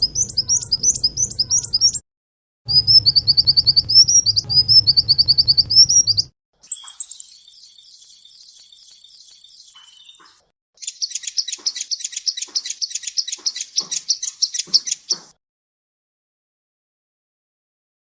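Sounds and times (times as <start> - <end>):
fast high bird trill: 0.0 - 2.0, 2.7 - 15.2
rising bird chirps: 0.0 - 2.0, 2.7 - 15.3
sharp bird chips: 0.0 - 2.0, 2.7 - 15.4.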